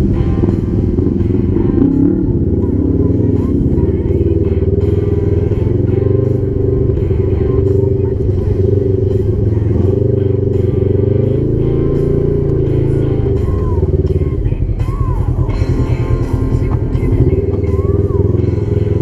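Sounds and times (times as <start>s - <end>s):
background music with deep bass: 0.0s - 19.0s.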